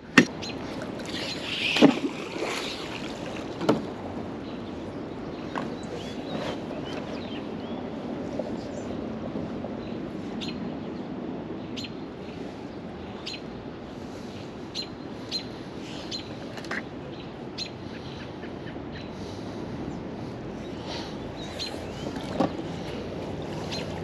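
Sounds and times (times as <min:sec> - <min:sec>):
steady low rush: 0:02.2 - 0:24.0.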